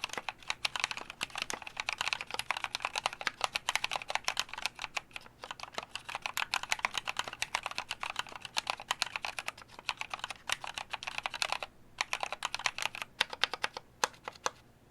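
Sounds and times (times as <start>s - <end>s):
fast mechanical keyboard typing: 0.0s - 14.6s.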